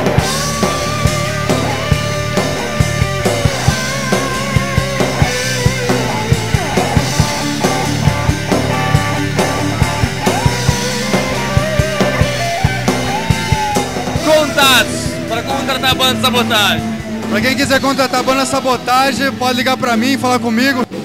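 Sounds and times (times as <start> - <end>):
electric guitar: 0.0 - 20.1
fast drum kit: 0.0 - 20.4
electric bass: 0.0 - 21.0.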